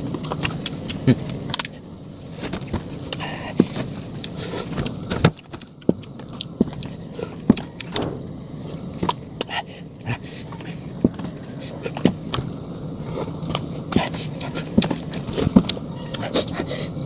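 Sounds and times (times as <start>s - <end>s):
wet chewing: 0.1s - 1.8s, 3.0s - 7.9s, 8.7s - 16.9s.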